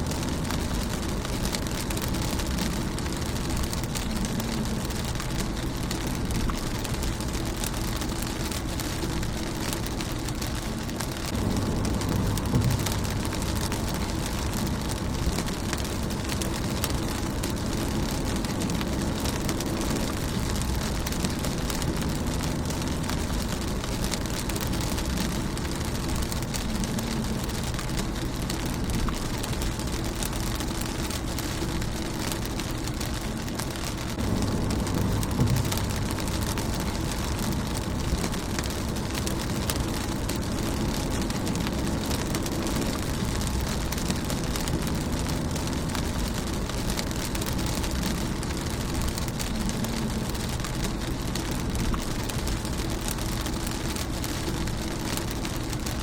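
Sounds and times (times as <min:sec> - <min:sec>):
low rumble: 0:00.0 - 0:56.0
rain drumming on car roof: 0:00.0 - 0:56.0.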